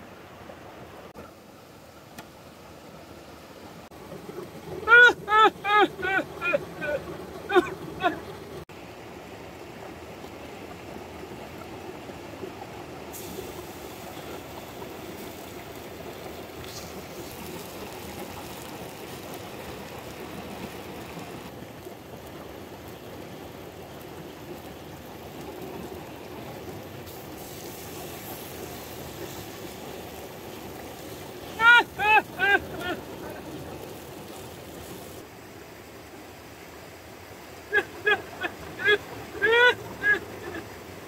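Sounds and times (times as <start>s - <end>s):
rocky stream rushing: 0.0s - 41.0s.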